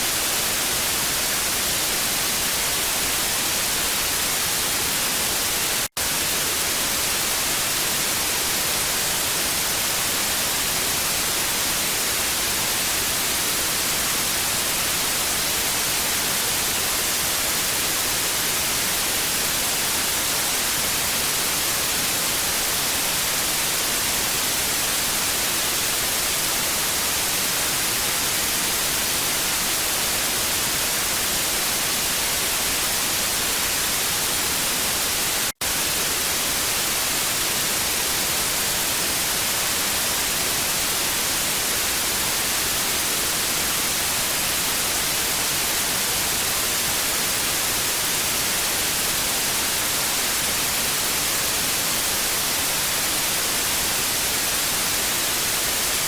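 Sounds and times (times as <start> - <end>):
tv static hiss: 0.0 - 56.0.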